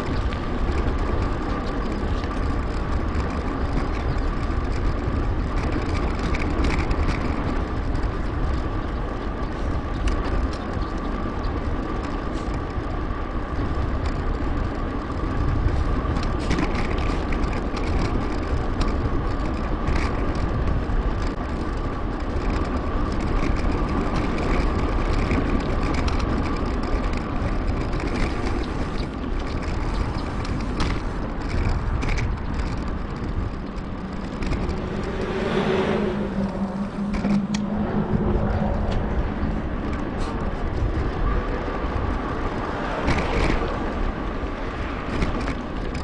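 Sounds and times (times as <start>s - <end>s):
clicks and rattles: 0.0s - 35.7s, 36.4s - 46.0s
bicycle tyres on road: 0.0s - 46.0s
wind rumble on microphone: 0.0s - 46.0s.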